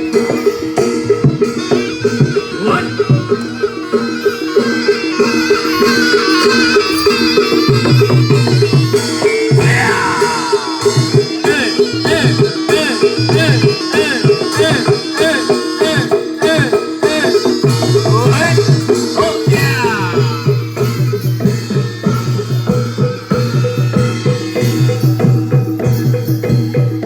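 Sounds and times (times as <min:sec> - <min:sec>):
drums beating a brisk rhythm: 0:00.0 - 0:27.0
fast repeating metallophone notes: 0:00.0 - 0:27.0
high wavering melody line: 0:00.0 - 0:27.0.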